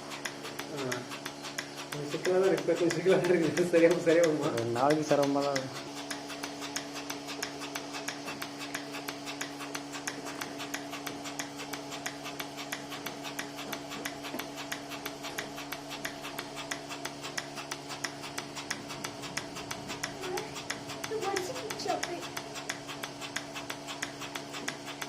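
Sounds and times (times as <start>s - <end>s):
milking machine humming and ticking: 0.0s - 25.0s.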